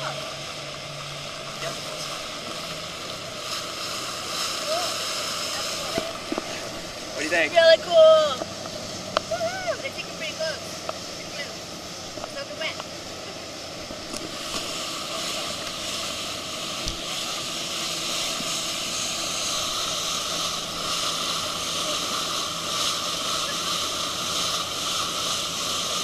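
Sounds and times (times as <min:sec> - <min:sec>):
speedboat engine hum: 0:00.0 - 0:26.0
water rushing from wake: 0:00.0 - 0:26.0
wind: 0:00.0 - 0:26.0.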